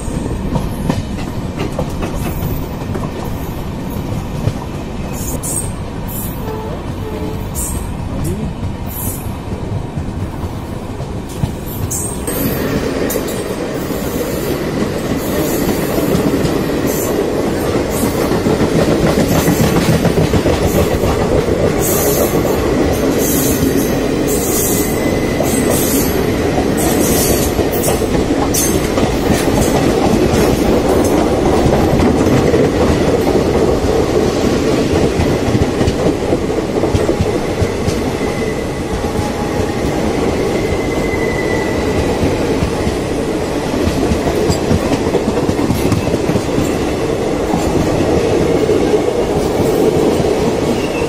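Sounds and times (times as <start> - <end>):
clickety-clack over rail joints: 0.0 - 51.0
train wheels rumbling on rail: 0.0 - 51.0.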